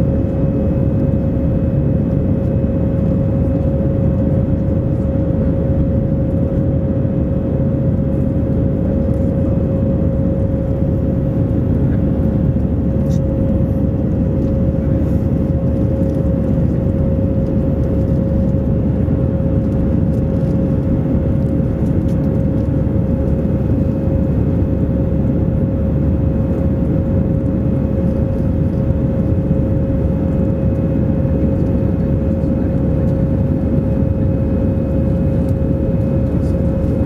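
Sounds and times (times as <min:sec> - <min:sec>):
jet cabin engine rumble: 0:00.0 - 0:37.0
mid-pitched hum: 0:00.0 - 0:37.0.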